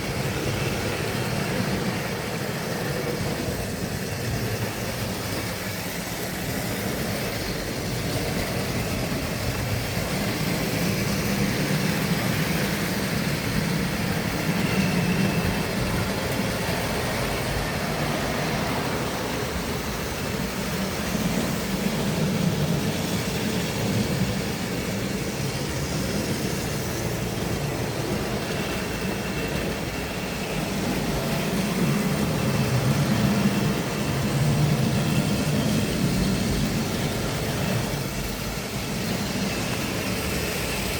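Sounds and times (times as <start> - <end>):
model train motor hum: 0.0 - 40.9.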